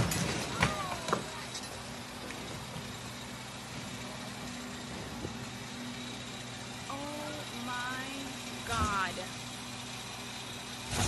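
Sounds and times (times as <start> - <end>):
crane engine idling: 0.0 - 11.0.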